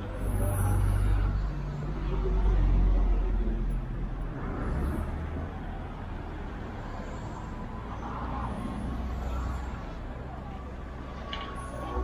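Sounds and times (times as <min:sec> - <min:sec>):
passing vehicles rumble: 0:00.0 - 0:12.0
road traffic noise: 0:00.0 - 0:12.0.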